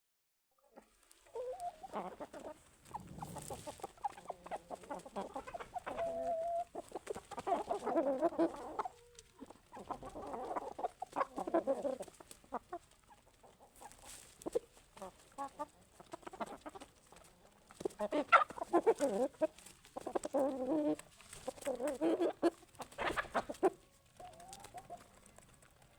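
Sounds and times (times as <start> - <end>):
chickens clucking: 0.6 - 25.9.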